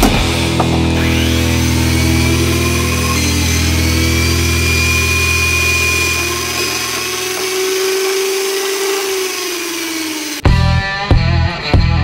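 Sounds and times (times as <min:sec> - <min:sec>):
motor hum: 0:00.4 - 0:10.4
drill press drilling steel: 0:00.8 - 0:10.4.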